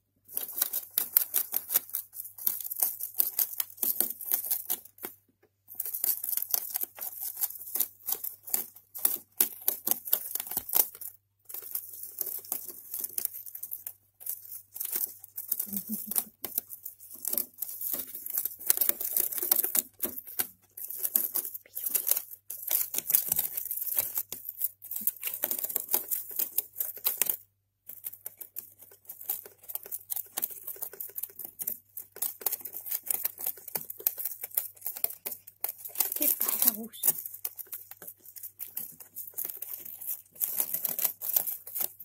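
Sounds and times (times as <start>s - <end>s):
gerbils gnawing cardboard: 0.1s - 42.0s.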